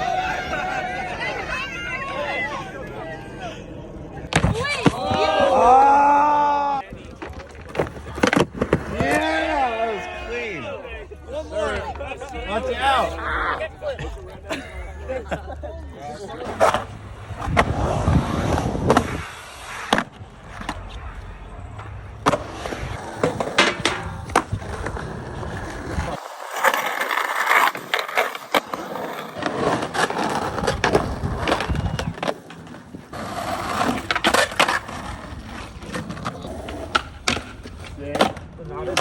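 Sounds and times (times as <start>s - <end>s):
skateboards clacking and landing: 0.0s - 10.6s, 16.2s - 39.0s
skateboards rolling: 0.0s - 39.0s.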